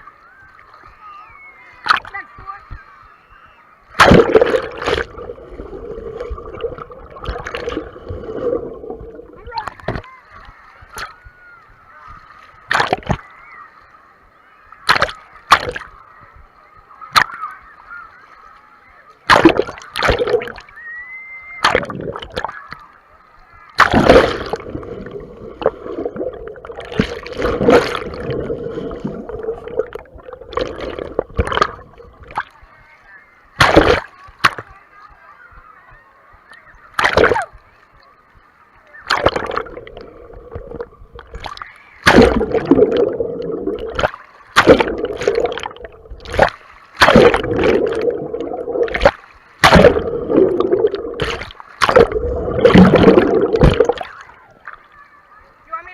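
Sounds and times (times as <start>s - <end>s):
muffled water splashing: 0.0s - 55.9s.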